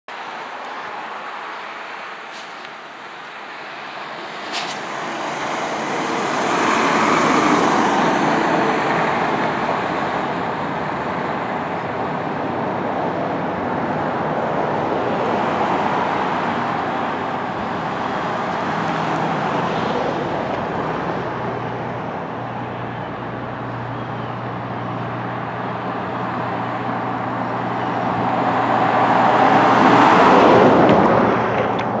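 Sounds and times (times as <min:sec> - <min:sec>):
road traffic passing: 0:00.1 - 0:32.0
low engine hum: 0:02.3 - 0:32.0.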